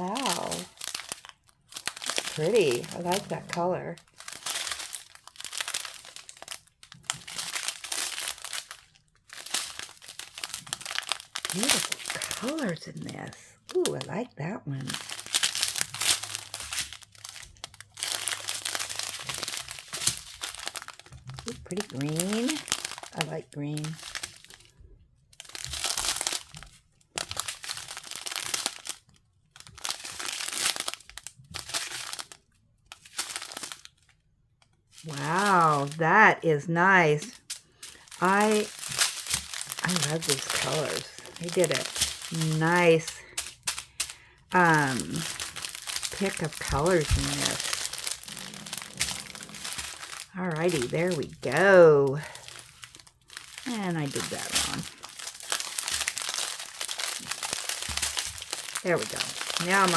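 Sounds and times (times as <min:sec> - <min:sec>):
plastic bags crinkling: 0:00.0 - 0:34.2, 0:34.8 - 0:59.9.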